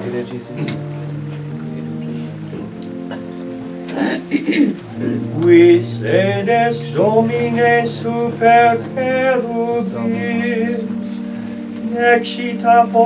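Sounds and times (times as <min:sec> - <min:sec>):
low held notes: 0:00.0 - 0:13.0.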